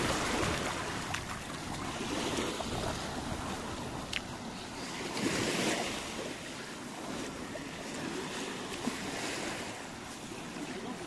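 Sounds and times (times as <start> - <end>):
small waves lapping on shore: 0.0 - 11.0.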